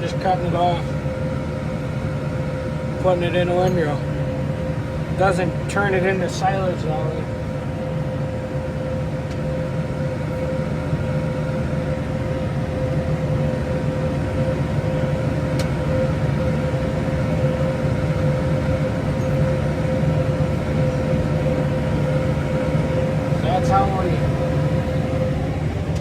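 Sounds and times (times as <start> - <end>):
constant mower whine: 0.0 - 26.0
tractor low drone: 0.0 - 26.0.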